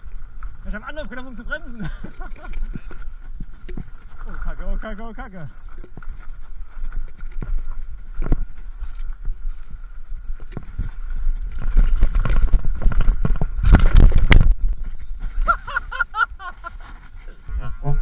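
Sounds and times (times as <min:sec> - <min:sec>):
mountain bike rattling on trail: 0:00.0 - 0:17.4.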